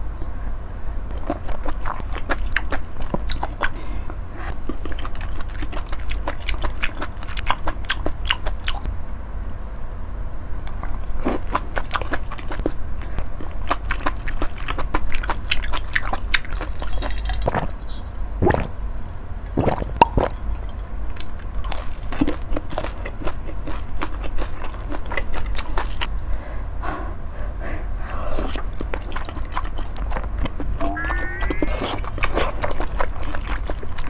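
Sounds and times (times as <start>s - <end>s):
wet chewing and mouth smacks: 1.1s - 3.8s, 4.7s - 8.9s, 10.7s - 18.7s, 19.5s - 26.4s, 28.1s - 34.0s.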